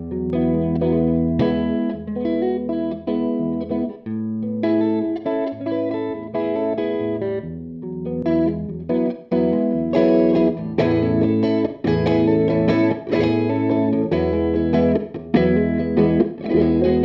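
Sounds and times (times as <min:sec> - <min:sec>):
electric guitar chords and notes: 0:00.0 - 0:17.0.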